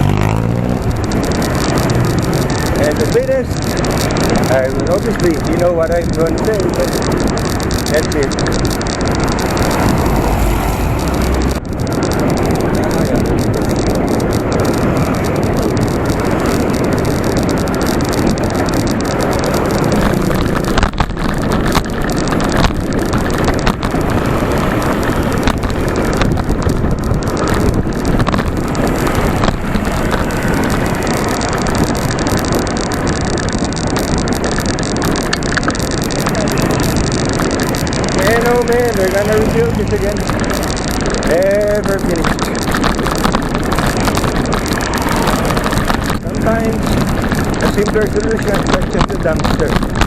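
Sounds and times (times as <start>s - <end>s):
road and traffic noise: 0.0s - 50.0s
wind rush on microphone: 0.0s - 50.0s.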